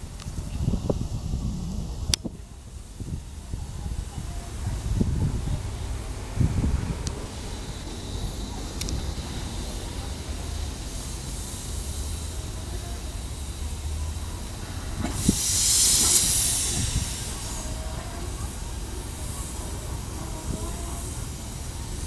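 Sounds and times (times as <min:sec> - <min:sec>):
loud steam hiss: 0:00.0 - 0:22.0
steam locomotive rumbling: 0:00.0 - 0:22.0.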